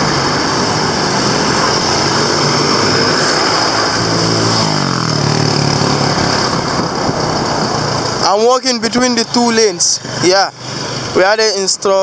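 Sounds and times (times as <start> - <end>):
road noise: 0.0 - 12.0
vehicle engines passing: 0.0 - 12.0.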